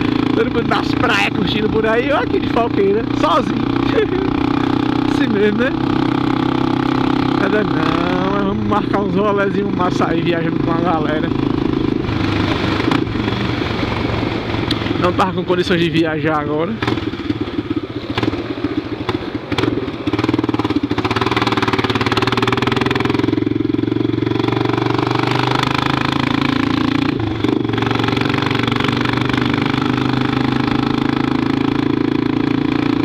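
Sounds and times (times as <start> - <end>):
motorcycle engine droning: 0.0 - 33.0.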